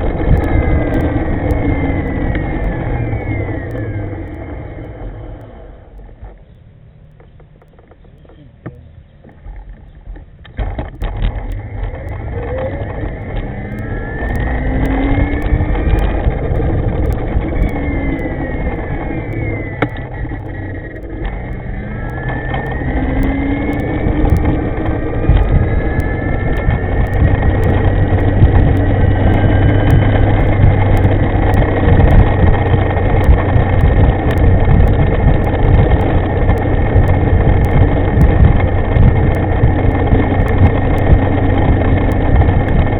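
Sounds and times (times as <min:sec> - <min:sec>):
electric motor whine rising: 0:00.0 - 0:06.3, 0:10.6 - 0:42.9
wind rumble on microphone: 0:00.0 - 0:42.9.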